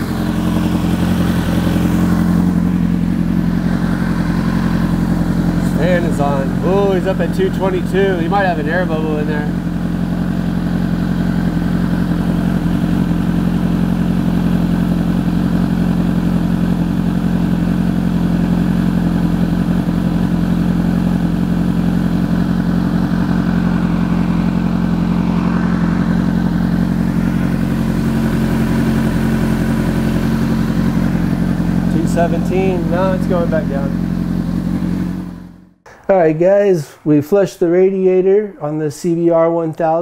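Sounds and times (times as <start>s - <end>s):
motorcycle engine idling: 0.0s - 35.8s.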